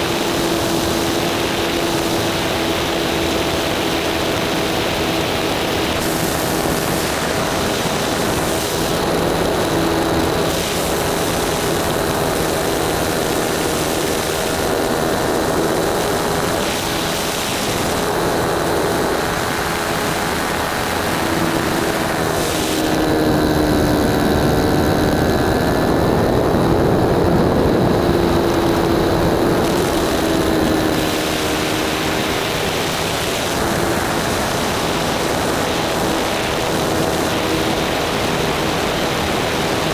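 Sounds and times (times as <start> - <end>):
model plane engine running: 0.0 - 39.9
rush of air: 0.0 - 39.9.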